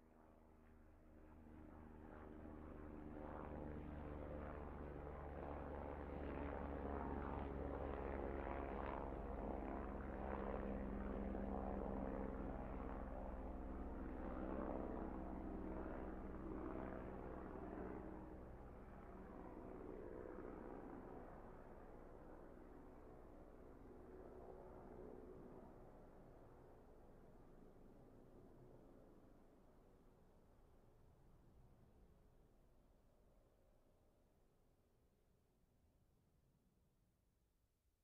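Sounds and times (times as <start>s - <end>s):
helicopter flying overhead: 0.0s - 31.2s.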